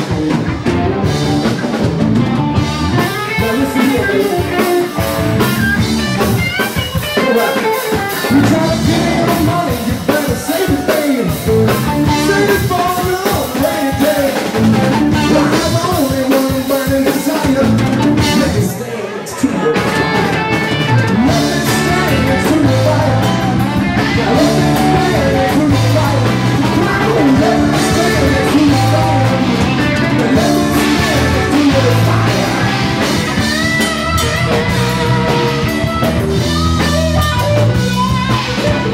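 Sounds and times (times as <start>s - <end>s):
drum kit: 0.0s - 18.7s, 19.5s - 38.9s
electric guitar: 0.0s - 38.9s.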